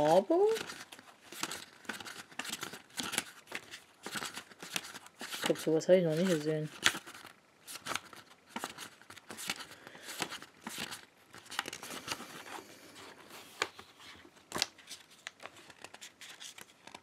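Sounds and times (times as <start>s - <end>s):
book pages rustling: 0.0s - 17.0s.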